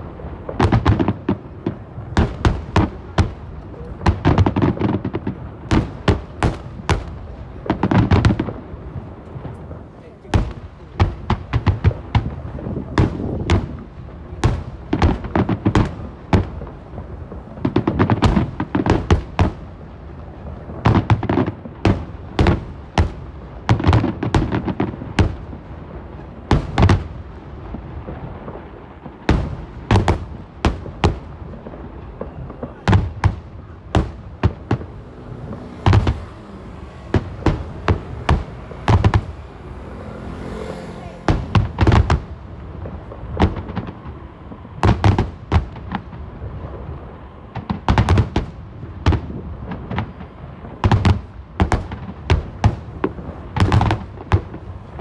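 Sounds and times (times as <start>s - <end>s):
continuous low rumble: 0.0s - 55.0s.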